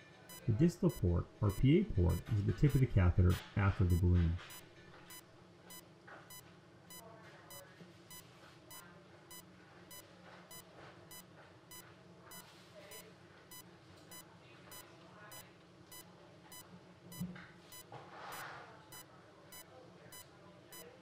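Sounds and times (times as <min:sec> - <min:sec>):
low room hum: 0:00.0 - 0:21.0
patient monitor beeping: 0:00.0 - 0:21.0.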